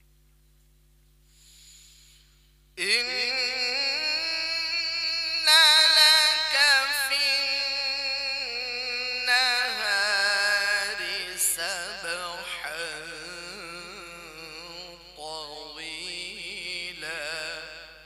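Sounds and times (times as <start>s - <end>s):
man chanting melodic recitation: 2.8s - 18.0s.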